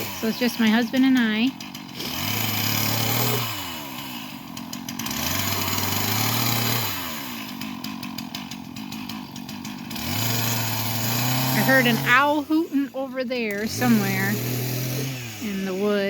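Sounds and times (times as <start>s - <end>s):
chainsaw revving and idling: 0.0s - 16.0s.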